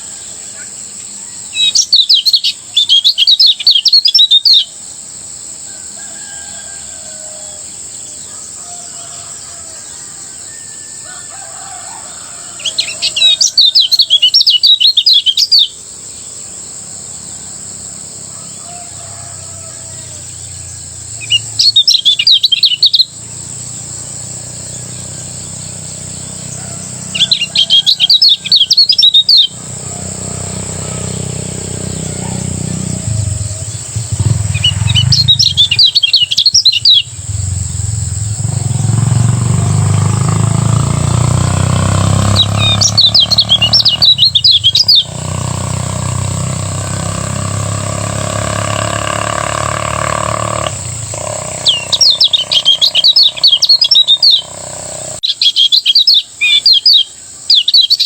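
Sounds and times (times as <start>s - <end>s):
bird fast jittery chirping: 0.0s - 58.0s.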